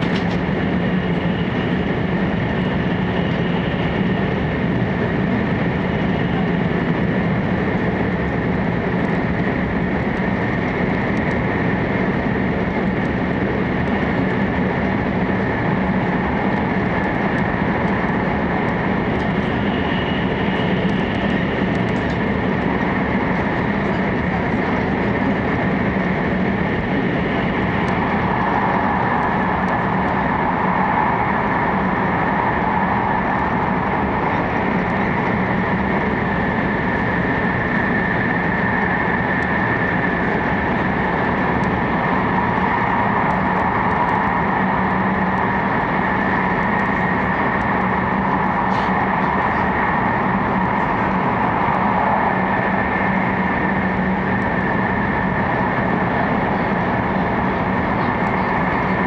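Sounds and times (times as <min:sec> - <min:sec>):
steady hum tones: 0:00.0 - 0:59.0
train cabin rumble: 0:00.0 - 0:59.0.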